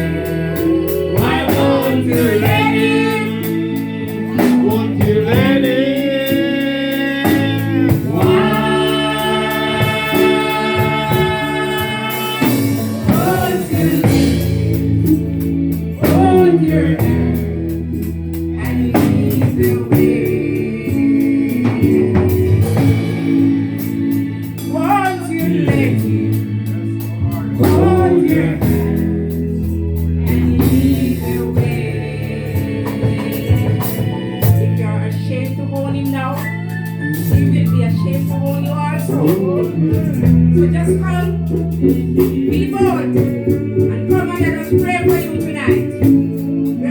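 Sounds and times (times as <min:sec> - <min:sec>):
gospel music with singing: 0:00.0 - 0:46.9.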